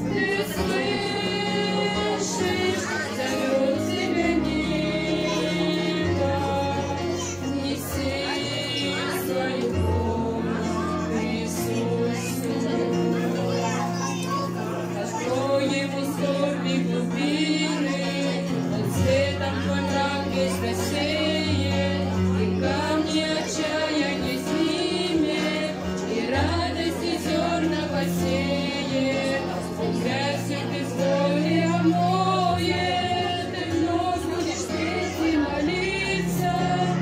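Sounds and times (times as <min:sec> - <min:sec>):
voices singing along: 0:00.0 - 0:37.0.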